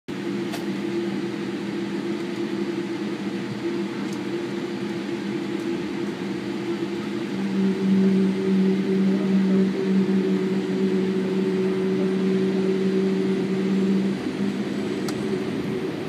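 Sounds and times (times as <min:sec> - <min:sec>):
airliner cabin hum: 0:00.1 - 0:16.0
jet engines at low power: 0:00.1 - 0:16.0.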